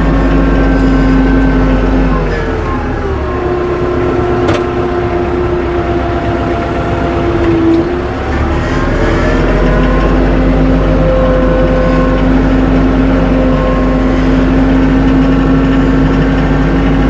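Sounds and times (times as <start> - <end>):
snow chains on tractor: 0.0 - 17.0
tractor engine running: 0.0 - 17.0.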